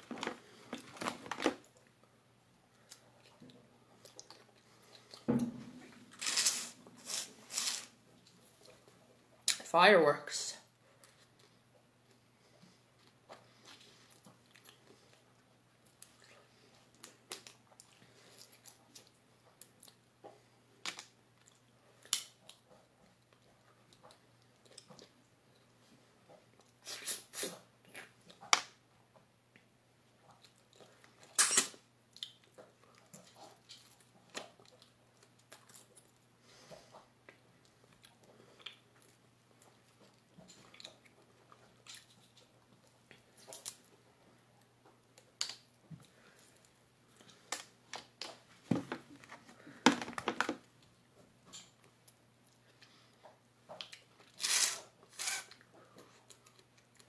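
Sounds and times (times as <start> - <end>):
soft chewing: 0.0 - 9.6, 10.8 - 49.8, 50.7 - 57.0.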